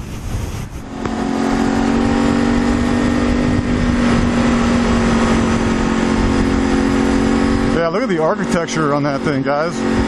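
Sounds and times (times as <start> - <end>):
even rushing noise: 0.0 - 10.0
vehicle engine hum: 0.0 - 10.0.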